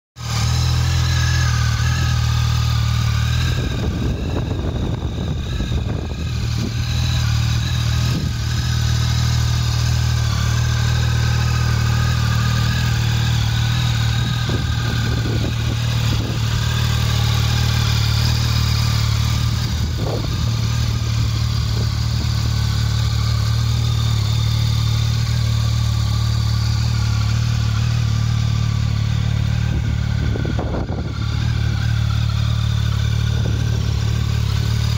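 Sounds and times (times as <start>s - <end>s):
motorcycle engine idling: 0.2s - 34.9s.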